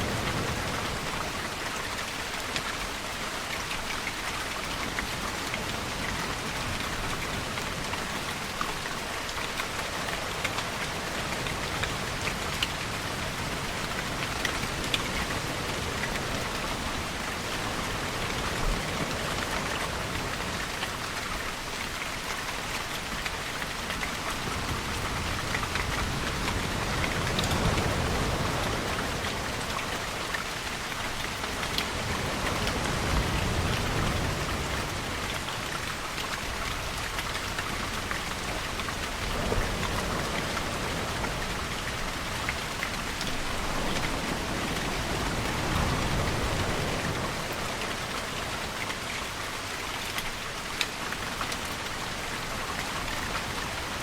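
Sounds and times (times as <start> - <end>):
raindrops ticking on a surface: 0.0 - 54.0
steady rainfall: 0.0 - 54.0.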